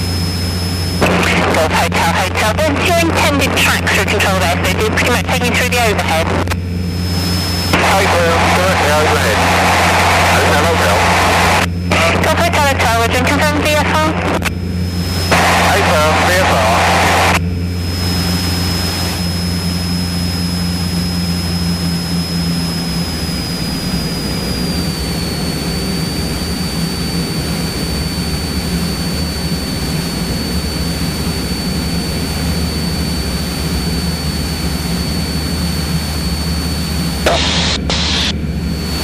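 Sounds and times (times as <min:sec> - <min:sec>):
airplane engine droning: 0:00.0 - 0:39.0
thin high whine: 0:00.0 - 0:39.0.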